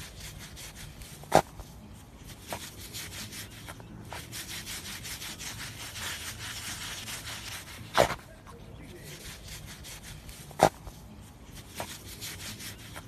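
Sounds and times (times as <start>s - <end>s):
dog digging in damp sand: 0.0s - 13.0s.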